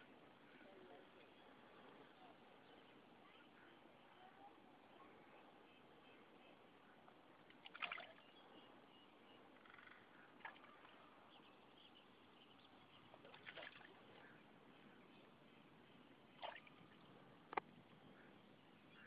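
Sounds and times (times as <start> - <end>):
lake ambience: 0.0 - 19.0.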